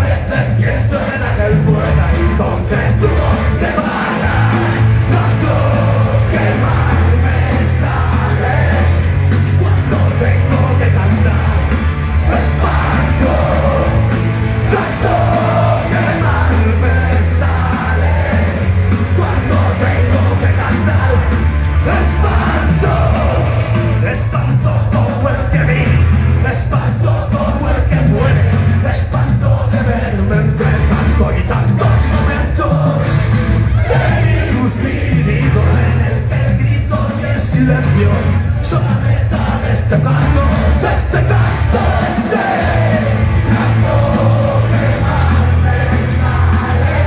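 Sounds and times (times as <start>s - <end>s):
bass guitar: 0.0s - 47.0s
drum kit: 0.0s - 47.0s
electric guitars: 0.0s - 47.0s
singer shouting vocals: 0.0s - 47.0s.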